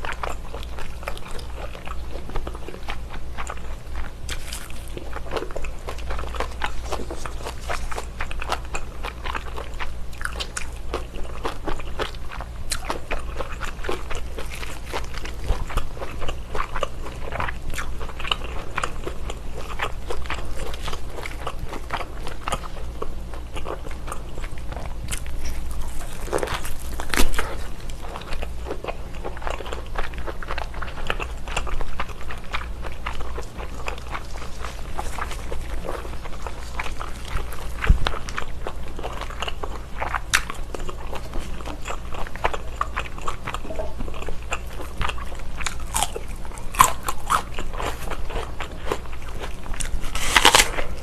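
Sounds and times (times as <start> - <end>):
bacon being bitten and chewed: 0.0 - 51.0.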